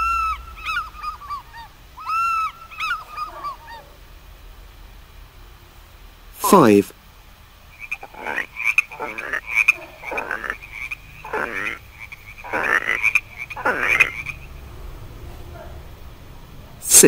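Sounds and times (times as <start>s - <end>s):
frog croaking: 0.0s - 4.9s, 7.6s - 16.8s.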